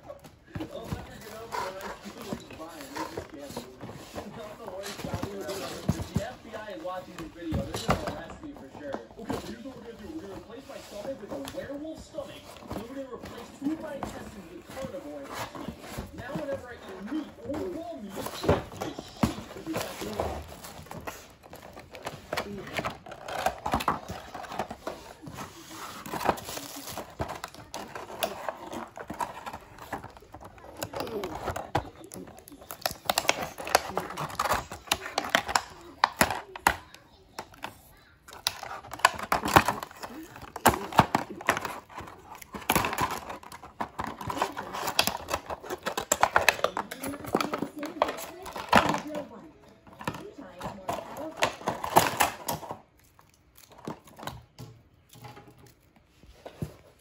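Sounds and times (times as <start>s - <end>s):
packaging being handled: 0.0s - 57.0s
plastic crinkling: 0.0s - 57.0s.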